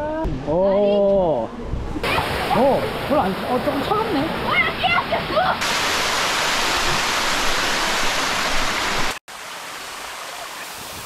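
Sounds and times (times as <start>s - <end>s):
quieter steady rush of water: 1.4s - 11.0s
water pouring loudly: 2.0s - 11.0s.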